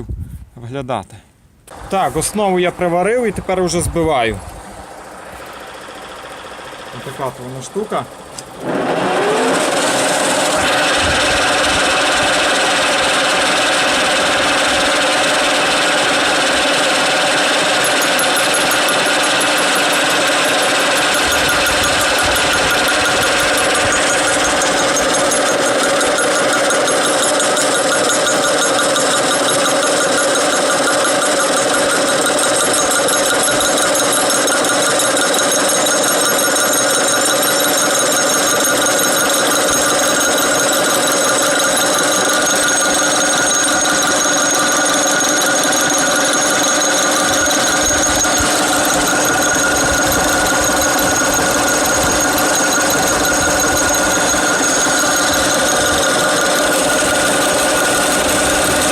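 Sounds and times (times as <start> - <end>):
power tool whining on steel: 4.6 - 58.9.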